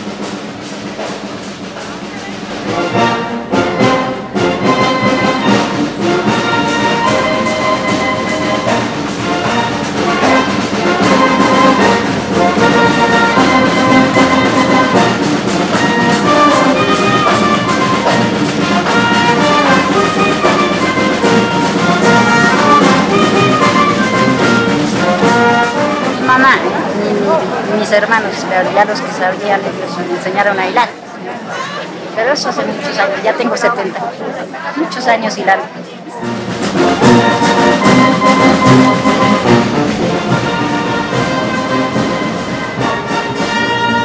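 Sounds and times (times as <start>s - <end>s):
brass band playing: 0.0s - 31.1s, 36.1s - 44.0s.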